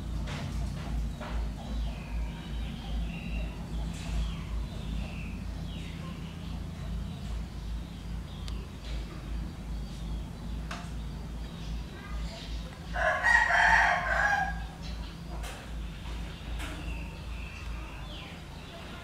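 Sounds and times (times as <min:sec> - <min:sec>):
low pulsing hum: 0:00.0 - 0:19.0.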